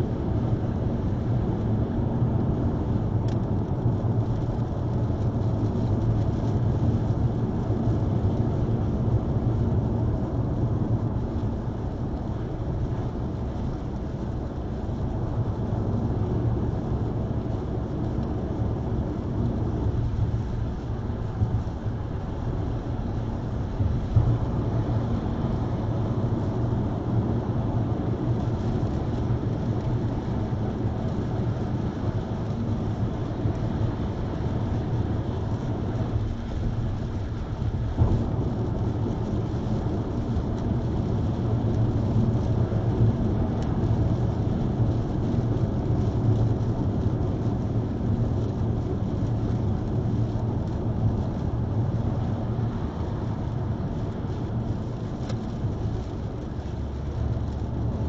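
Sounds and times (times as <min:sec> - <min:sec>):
car road and engine noise: 0:00.0 - 0:58.0
rain: 0:00.0 - 0:58.0.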